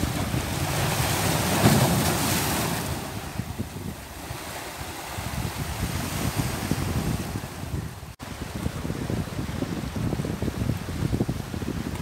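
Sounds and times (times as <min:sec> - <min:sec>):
sea waves breaking on rocks: 0:00.0 - 0:12.0
wind buffeting microphone: 0:00.0 - 0:12.0.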